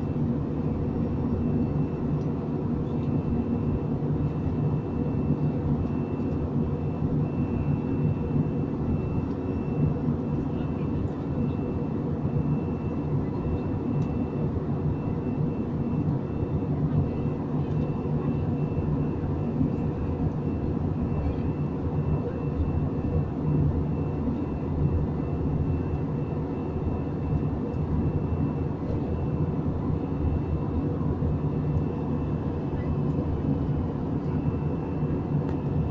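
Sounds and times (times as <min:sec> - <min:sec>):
deep drone of engines and airflow: 0:00.0 - 0:35.9.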